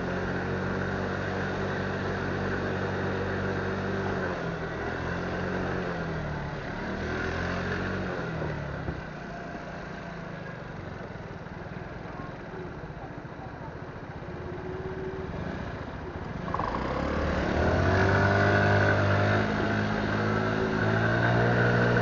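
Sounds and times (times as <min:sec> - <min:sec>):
motorcycle engine revving: 0:00.0 - 0:10.3, 0:14.3 - 0:22.0.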